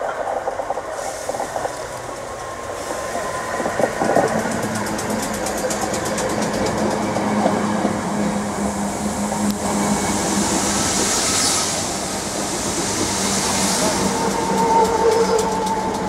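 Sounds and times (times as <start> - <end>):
electric train passing: 0.0 - 16.0
hiss: 0.0 - 16.0.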